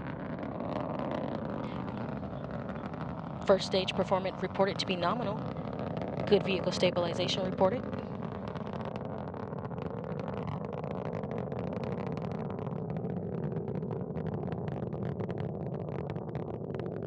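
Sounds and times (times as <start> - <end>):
rocket engines roaring: 0.0 - 17.0.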